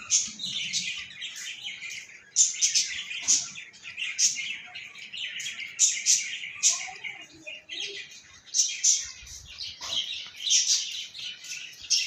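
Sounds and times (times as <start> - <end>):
small birds twittering: 0.0 - 12.0.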